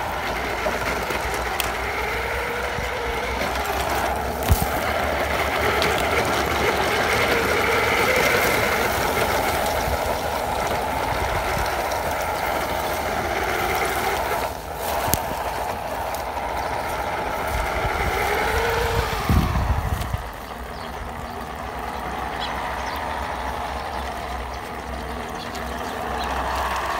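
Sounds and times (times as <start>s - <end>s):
electric motor whining: 0.0s - 26.9s.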